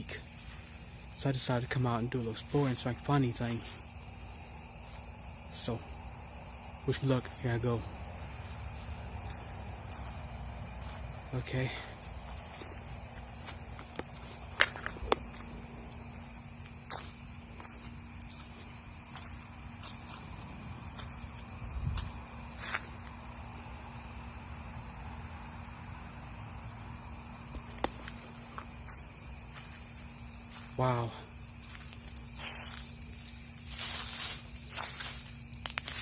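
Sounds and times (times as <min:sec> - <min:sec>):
slow footsteps: 0:00.0 - 0:23.7, 0:26.6 - 0:36.0
crickets chirping: 0:00.0 - 0:36.0.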